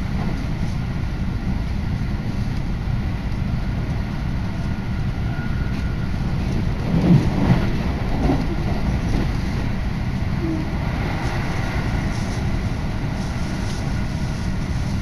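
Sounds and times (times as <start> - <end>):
electric train running rumble: 0.0 - 15.0.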